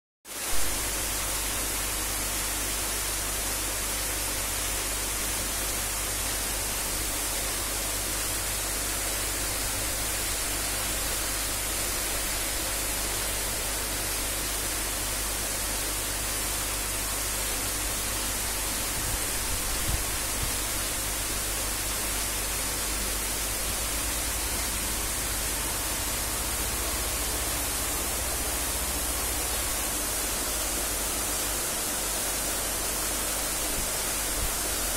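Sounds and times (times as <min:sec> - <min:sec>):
low steady hum: 0:06.4 - 0:34.9.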